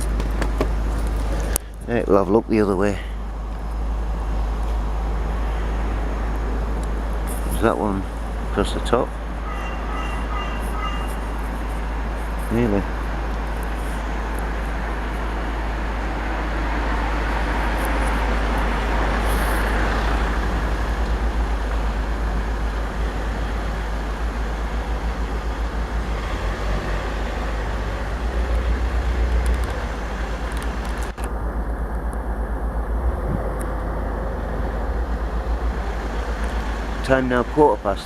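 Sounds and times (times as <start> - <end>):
low traffic rumble: 0.0 - 38.0
passing vehicles: 0.0 - 38.0.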